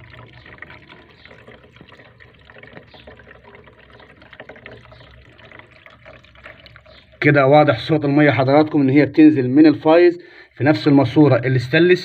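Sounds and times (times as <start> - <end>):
water trickling down drain pipe: 0.0 - 12.0.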